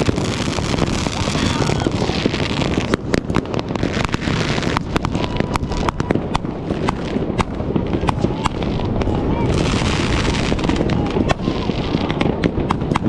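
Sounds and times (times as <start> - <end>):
firecrackers cracking: 0.0 - 13.0
low rumble of fireworks bangs: 0.0 - 13.0.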